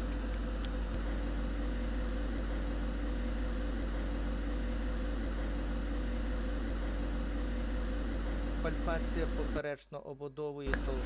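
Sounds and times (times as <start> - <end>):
faint constant tone: 0.0 - 9.6, 10.7 - 11.0
low electrical hum with hiss: 0.0 - 9.6, 10.7 - 11.0.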